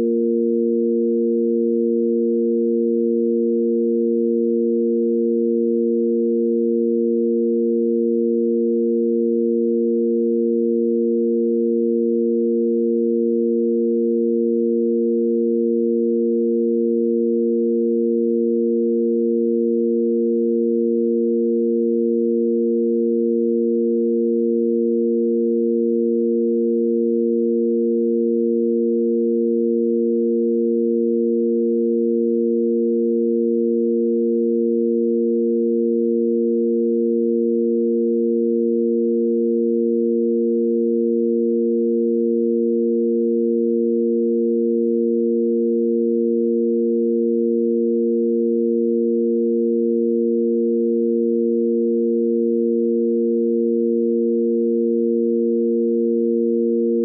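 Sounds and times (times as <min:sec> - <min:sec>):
steady sine tone drone: 0:00.0 - 0:57.0.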